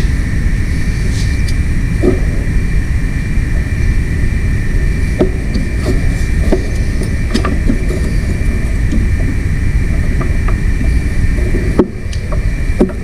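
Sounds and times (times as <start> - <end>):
machine high whine: 0.0 - 13.0
machine low rumble: 0.0 - 13.0.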